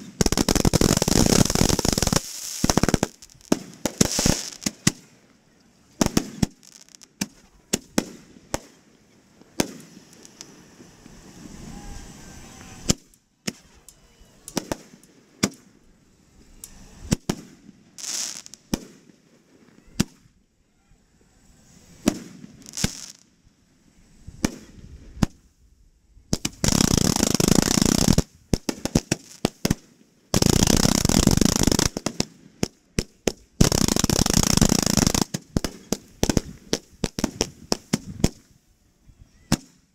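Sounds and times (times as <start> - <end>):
fireworks bangs and crackling: 0.0 - 5.2, 6.0 - 20.4, 21.5 - 23.4, 24.1 - 25.5, 26.3 - 38.6, 39.4 - 39.9.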